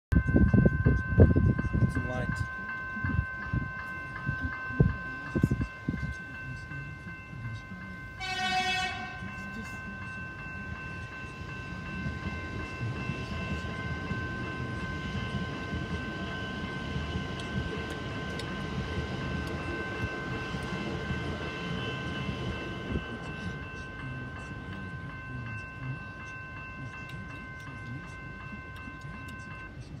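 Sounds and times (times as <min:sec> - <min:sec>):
crossing warning bell ringing: 0:00.1 - 0:30.0
electric train rumbling past: 0:00.1 - 0:30.0.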